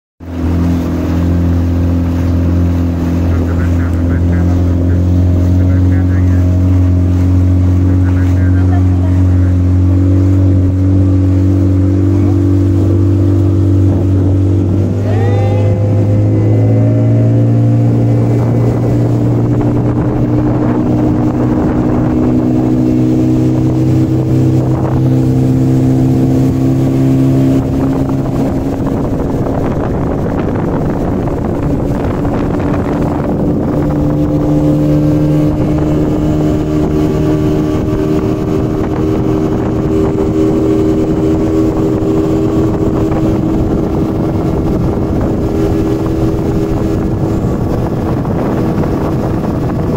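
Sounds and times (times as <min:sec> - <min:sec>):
motorboat engine running: 0:00.2 - 0:49.9.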